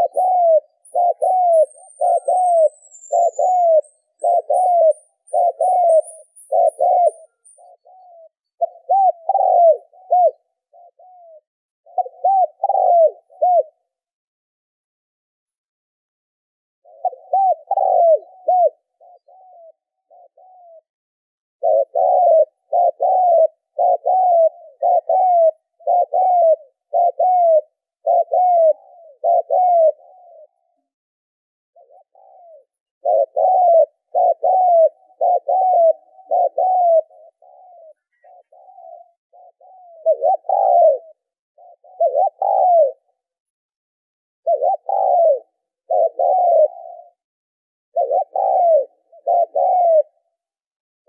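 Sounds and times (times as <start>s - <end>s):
dove cooing: 0.0s - 14.0s, 16.8s - 20.9s, 21.6s - 30.9s, 31.8s - 43.4s, 44.4s - 47.2s, 47.9s - 50.4s.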